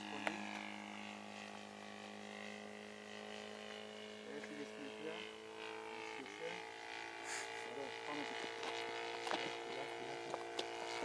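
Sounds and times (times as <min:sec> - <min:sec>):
model airplane engine humming: 0:00.0 - 0:11.0.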